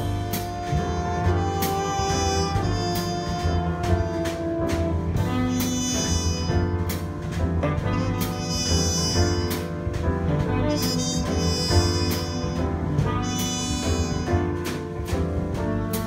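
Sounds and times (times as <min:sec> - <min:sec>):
drums with cymbal strokes: 0:00.0 - 0:16.0
horn notes: 0:00.0 - 0:16.0
piano: 0:00.0 - 0:16.0
walking double bass: 0:00.0 - 0:16.0.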